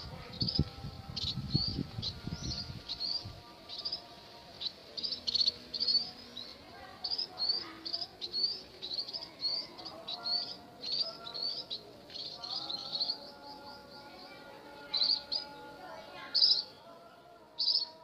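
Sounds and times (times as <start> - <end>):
young birds chirping: 0.0 - 16.8, 17.6 - 18.0.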